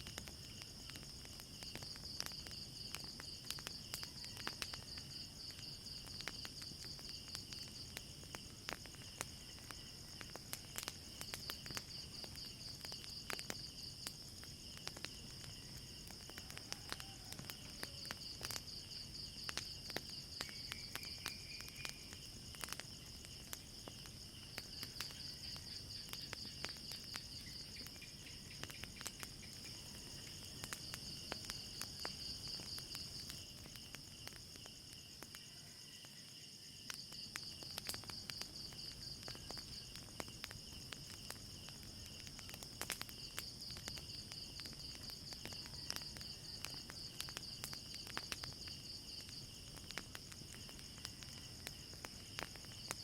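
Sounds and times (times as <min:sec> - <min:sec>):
crickets chirping: 0:00.0 - 0:53.0
wood fire crackling: 0:00.0 - 0:53.0.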